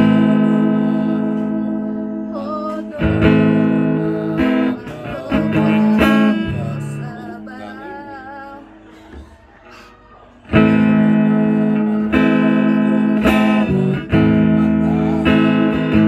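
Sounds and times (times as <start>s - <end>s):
guitar chords strummed: 0.0s - 9.2s, 10.5s - 16.0s.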